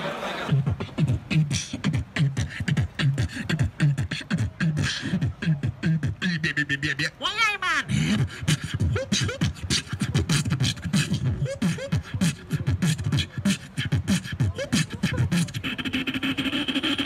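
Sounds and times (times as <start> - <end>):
beatboxing through a speaker: 0.0 - 17.0.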